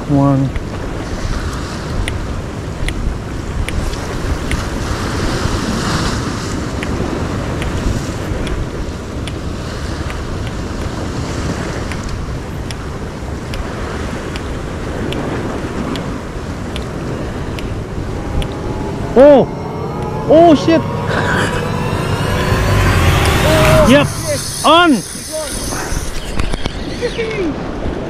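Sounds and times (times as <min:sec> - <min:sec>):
ocean surf on rocks: 0:00.0 - 0:20.8, 0:23.0 - 0:28.0
wind noise on microphone: 0:00.0 - 0:28.0.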